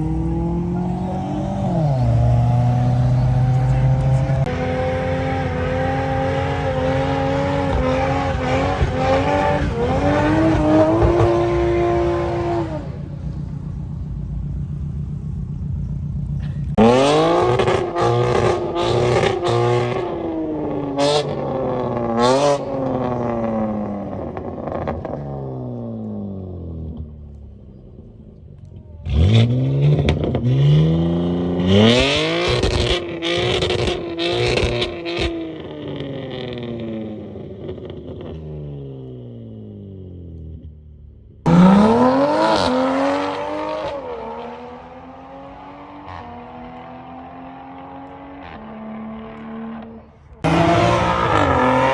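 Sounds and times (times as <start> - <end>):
car engines revving and accelerating: 0.0 - 51.9.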